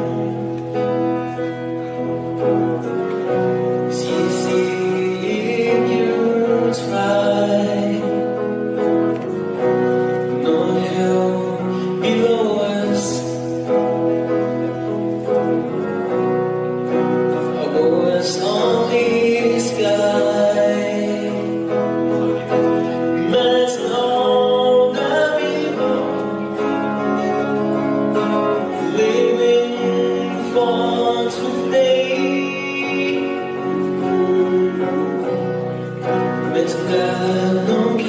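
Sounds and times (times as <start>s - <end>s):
man singing into a microphone: 0.0s - 15.8s, 17.3s - 38.0s
electric guitar chords: 0.0s - 38.0s.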